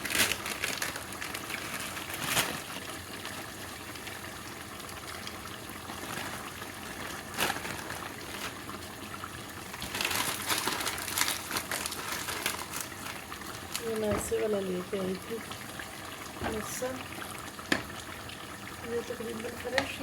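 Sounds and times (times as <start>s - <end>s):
food sizzling and crackling in pan: 0.0s - 20.0s.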